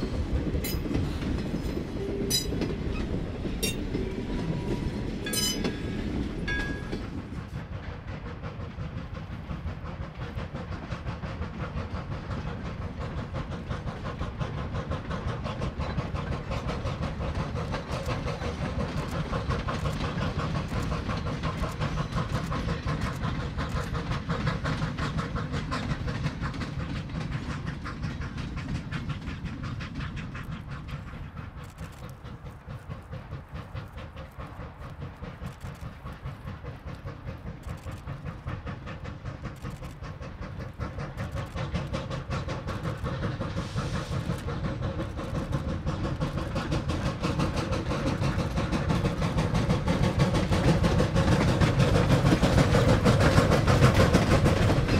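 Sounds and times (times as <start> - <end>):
steam locomotive exhaust beating: 0.0 - 54.9.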